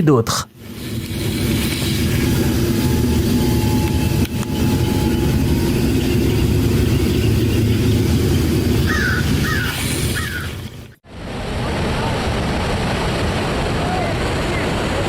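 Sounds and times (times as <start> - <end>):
low engine rumble: 0.6 - 15.0.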